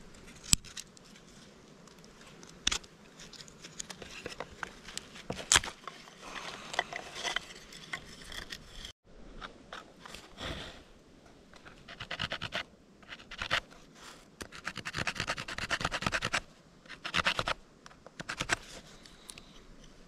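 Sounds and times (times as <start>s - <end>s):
stone scraping dry stalk: 0.0s - 9.0s, 11.6s - 19.2s.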